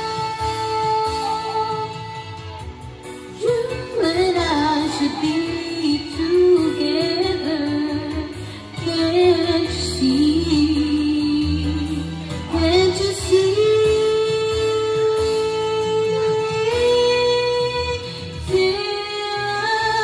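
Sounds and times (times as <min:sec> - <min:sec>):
woman singing: 0:00.0 - 0:02.6, 0:03.2 - 0:20.0
backing music track: 0:00.0 - 0:20.0.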